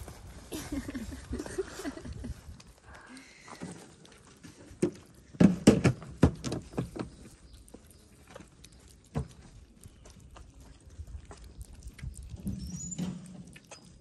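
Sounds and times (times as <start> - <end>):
cats chewing wet food: 0.0 - 14.0.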